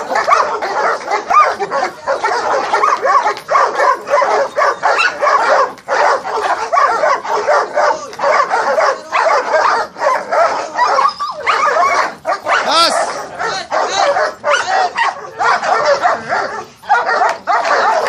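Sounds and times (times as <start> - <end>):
dogs barking fast: 0.0 - 18.0.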